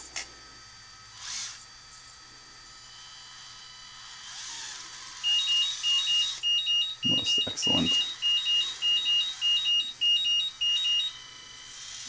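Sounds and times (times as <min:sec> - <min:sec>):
cooling fan whine and hum: 0:00.0 - 0:12.0.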